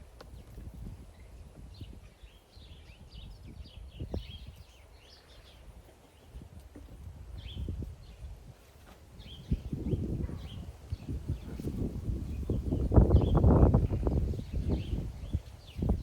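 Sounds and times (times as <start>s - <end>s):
low rumble on microphone: 0.0s - 16.0s
small birds chirping: 0.0s - 16.0s.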